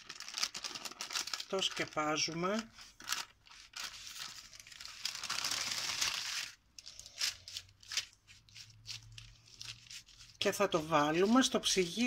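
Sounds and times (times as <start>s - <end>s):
baking paper crinkling: 0.0s - 12.0s.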